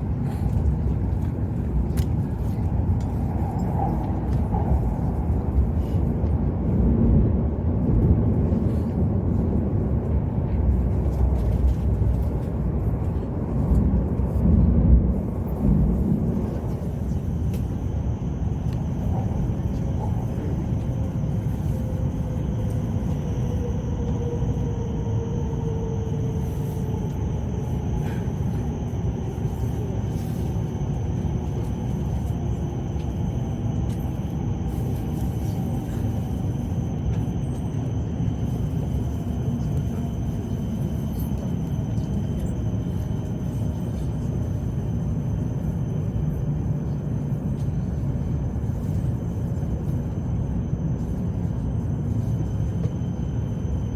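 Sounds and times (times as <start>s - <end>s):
train cabin low rumble: 0.0s - 53.9s.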